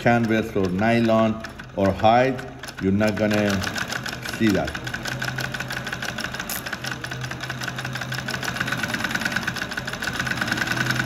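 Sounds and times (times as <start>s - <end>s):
sewing machine motor hum: 0.0s - 11.0s
sewing machine needle strokes: 0.0s - 11.0s.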